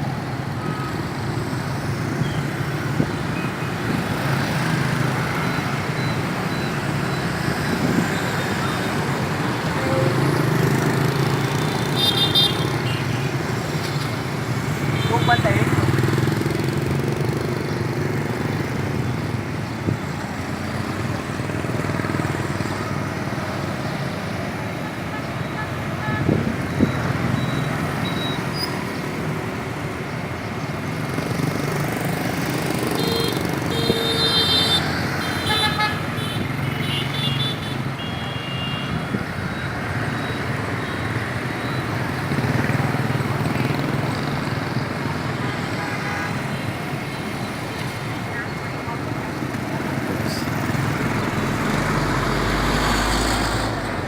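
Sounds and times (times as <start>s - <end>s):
motorbike traffic din: 0.0s - 54.0s.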